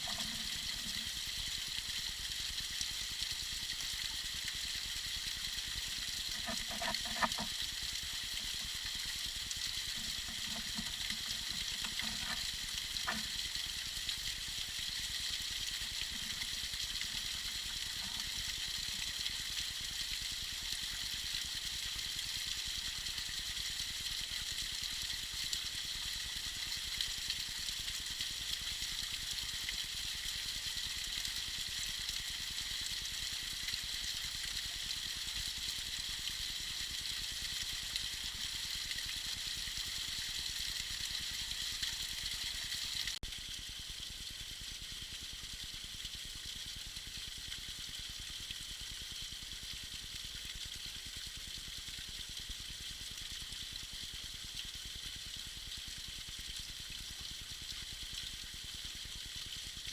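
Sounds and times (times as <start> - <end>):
small waterfall splashing: 0.0 - 59.9
water gurgles: 0.0 - 59.9.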